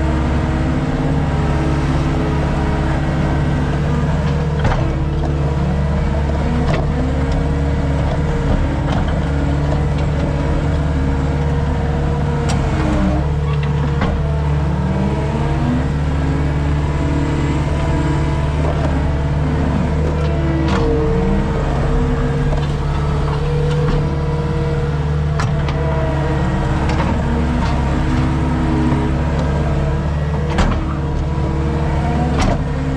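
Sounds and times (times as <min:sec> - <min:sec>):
diesel engine under load: 0:00.0 - 0:32.9.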